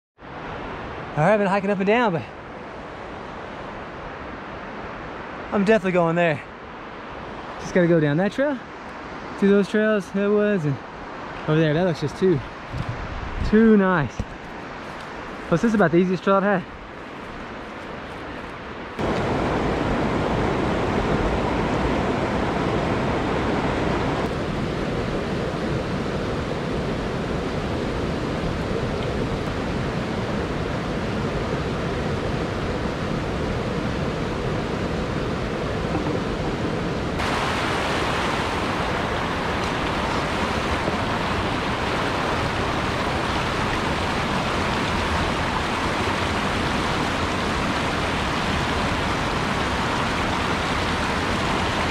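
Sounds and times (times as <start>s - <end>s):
water rushing over rocks: 6.9s - 32.1s, 34.4s - 51.9s.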